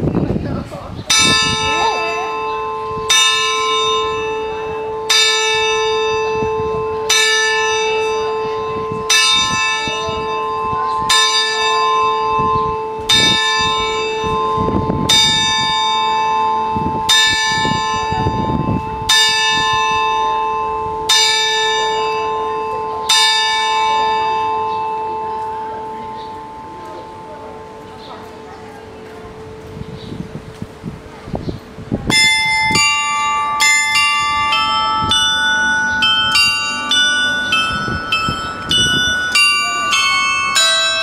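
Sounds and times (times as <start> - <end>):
carillon clock bell tolling: 1.1 - 30.8, 32.1 - 41.0.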